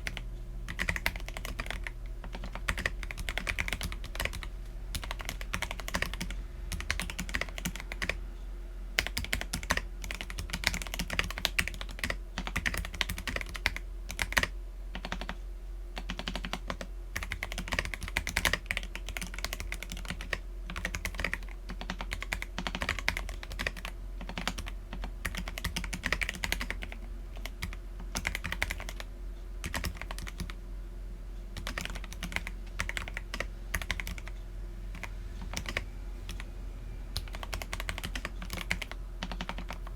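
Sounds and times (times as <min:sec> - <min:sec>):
mechanical keyboard typing: 0:00.0 - 0:08.2, 0:09.0 - 0:15.4, 0:16.0 - 0:30.6, 0:31.6 - 0:36.5, 0:37.2 - 0:39.9.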